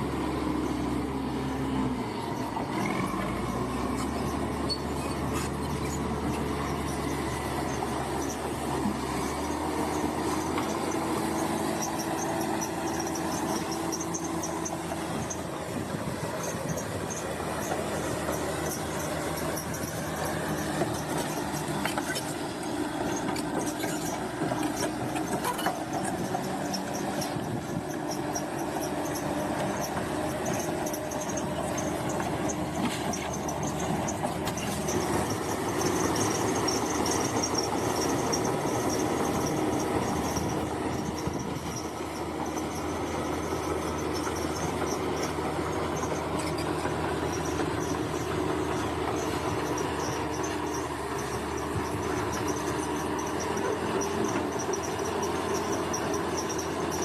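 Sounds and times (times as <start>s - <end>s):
bulldozer diesel engine running: 0.0s - 57.0s
high metallic squeal of tracks: 2.2s - 57.0s.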